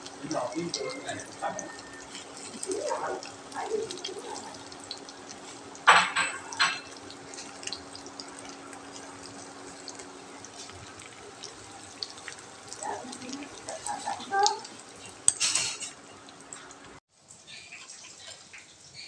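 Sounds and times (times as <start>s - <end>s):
water splashing: 0.0s - 18.8s
small water drips: 0.0s - 19.0s.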